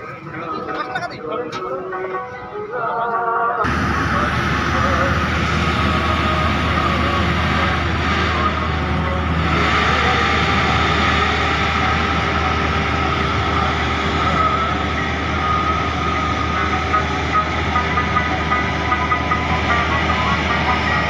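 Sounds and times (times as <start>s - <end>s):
ferry diesel engine drone: 0.0s - 21.0s.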